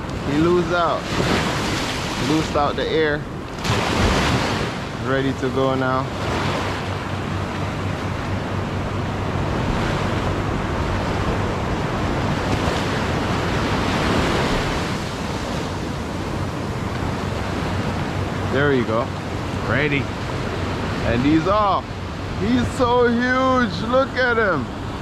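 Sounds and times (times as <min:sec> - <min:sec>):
small waves breaking on shore: 0:00.0 - 0:25.0.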